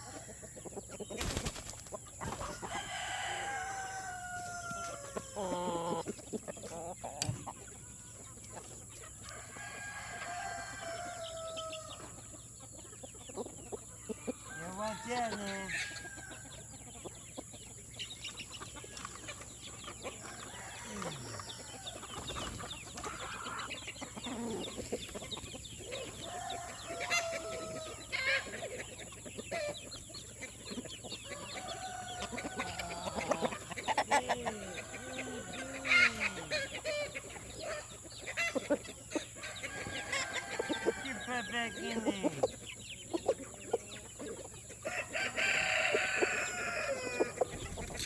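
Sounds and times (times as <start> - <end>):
chickens clucking and squawking: 0.0 - 48.0.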